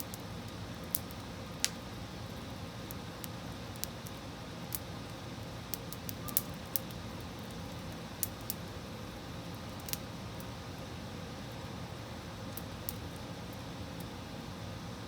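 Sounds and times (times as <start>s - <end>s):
fire crackling: 0.0s - 14.8s.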